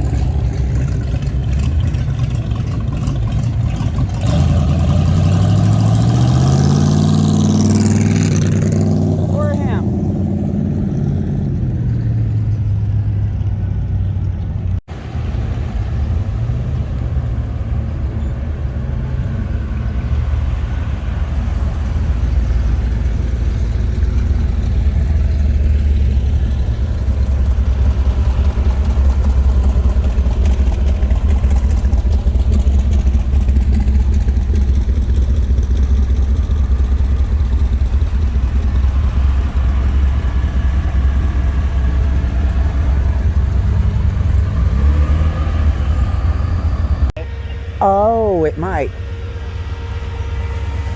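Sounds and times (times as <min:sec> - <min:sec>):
car engine running: 0:00.0 - 0:11.8, 0:12.4 - 0:50.9.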